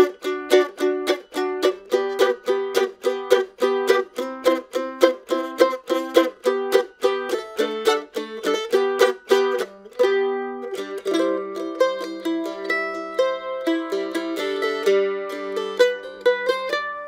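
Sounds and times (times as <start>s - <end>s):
mandolin chopped chords: 0.0s - 17.0s.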